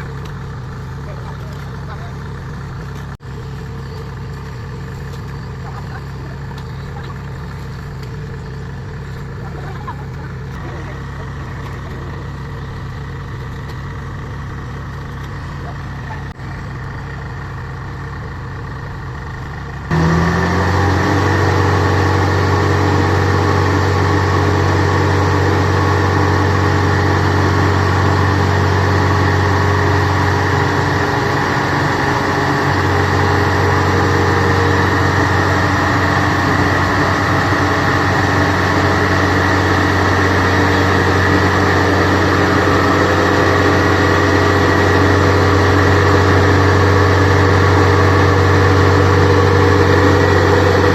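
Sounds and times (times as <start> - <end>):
combine harvester diesel engine: 0.0 - 50.9.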